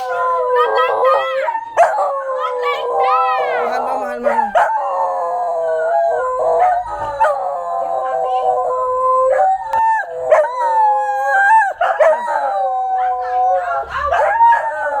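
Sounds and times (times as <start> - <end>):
dogs howling: 0.0 - 15.0.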